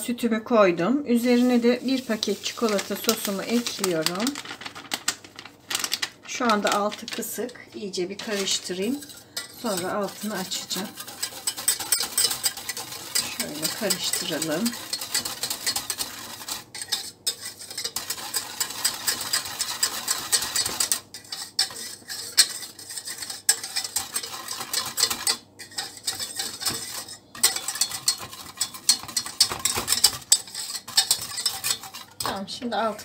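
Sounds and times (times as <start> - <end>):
wire whisk scraping a metal pot: 1.3 - 4.4, 8.2 - 33.0.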